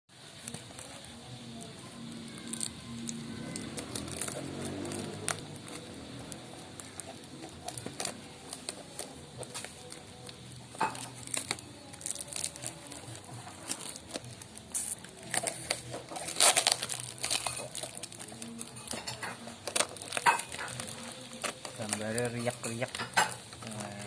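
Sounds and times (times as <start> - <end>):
packaging crinkling and rustling: 0.2 - 24.0
sharp clicks and crackles: 0.4 - 24.0.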